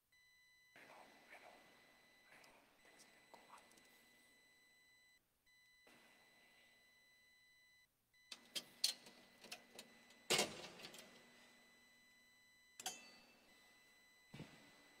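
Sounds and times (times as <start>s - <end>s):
faint steady high tone: 0.1s - 15.0s.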